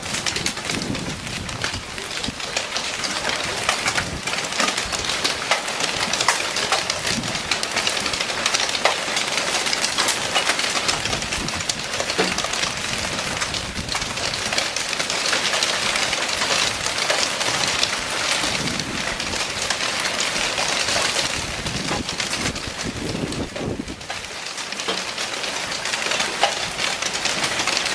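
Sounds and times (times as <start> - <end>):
hail clattering on hard surfaces: 0.0 - 27.9.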